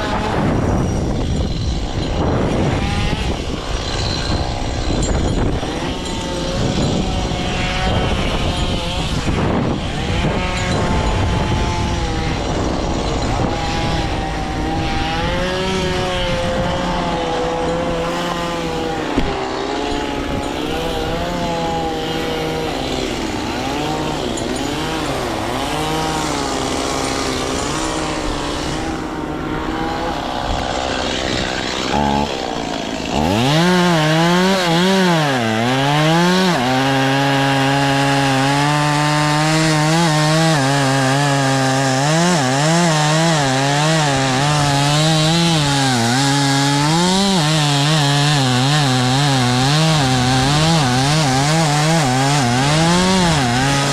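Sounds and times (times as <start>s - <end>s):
small engine revving: 0.0s - 53.9s.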